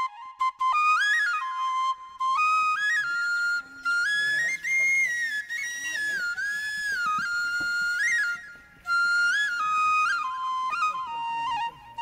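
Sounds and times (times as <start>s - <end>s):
solo flute melody: 0.0s - 12.0s.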